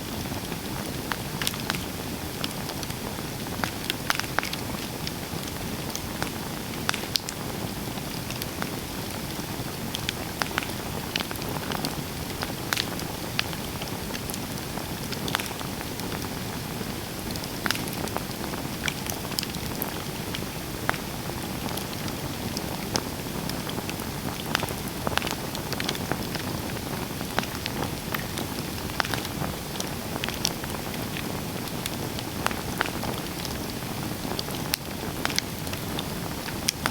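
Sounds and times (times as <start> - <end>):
campfire crackling and popping: 0.1 - 36.9.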